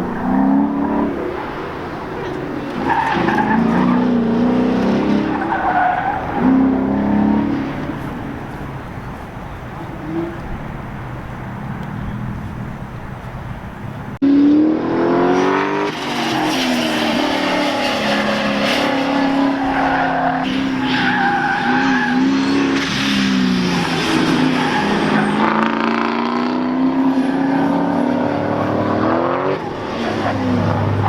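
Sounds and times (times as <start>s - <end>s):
tires squealing: 0.0s - 13.5s, 15.0s - 31.0s
car engine accelerating: 0.0s - 31.0s.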